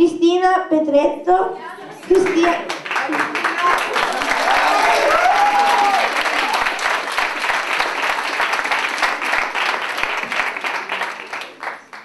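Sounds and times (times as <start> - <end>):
crowd applause: 1.9 - 12.0.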